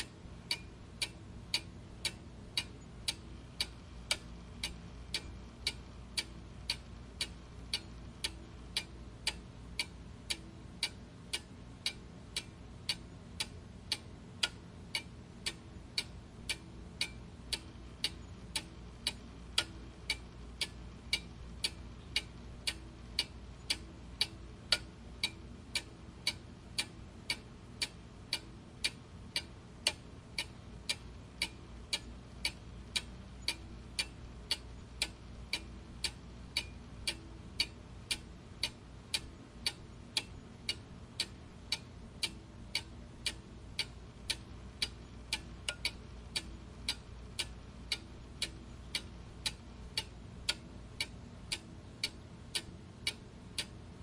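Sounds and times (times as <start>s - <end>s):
clock ticking: 0.0s - 54.0s
faint low hum: 0.0s - 54.0s.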